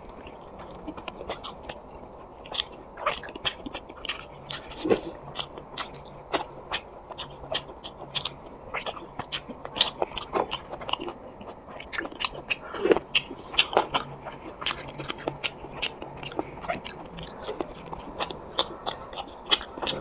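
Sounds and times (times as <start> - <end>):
person chewing and biting food: 0.0 - 20.0.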